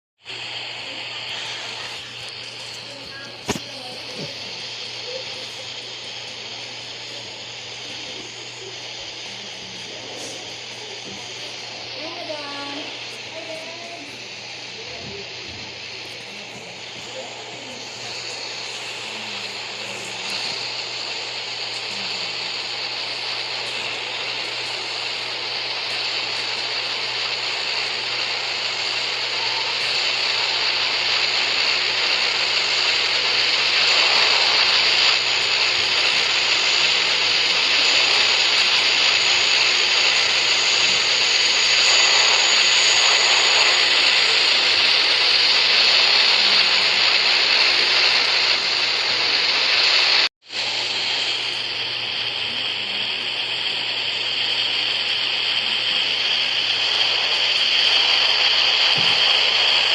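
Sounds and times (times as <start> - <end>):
turboprop engines whining: 0.2 - 59.9.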